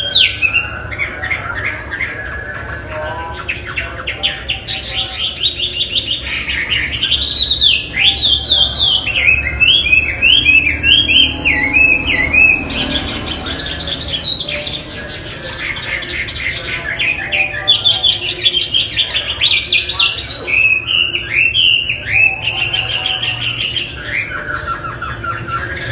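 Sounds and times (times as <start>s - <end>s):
bird singing varied song: 0.0s - 25.9s.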